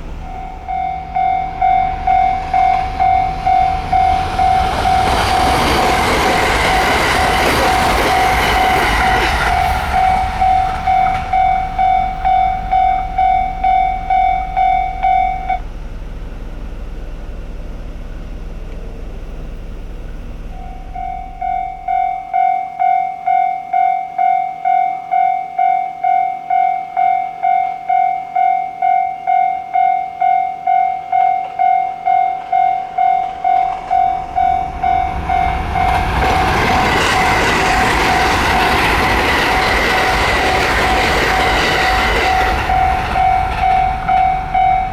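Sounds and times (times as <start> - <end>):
level crossing warning bell: 0.0 - 15.9, 20.4 - 44.9
passing train rumble: 0.0 - 23.8, 28.7 - 44.9.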